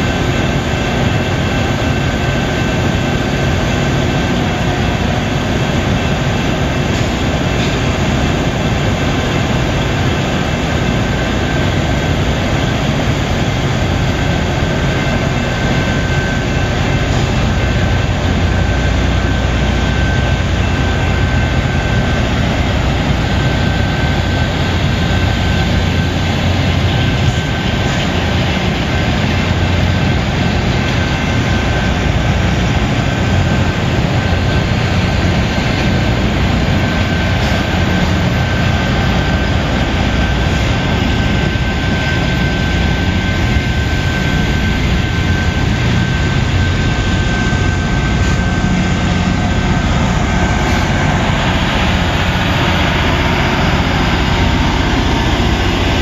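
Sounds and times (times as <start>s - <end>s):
faint high whine: 0.0s - 56.0s
rail grinder train rumbling: 0.0s - 56.0s.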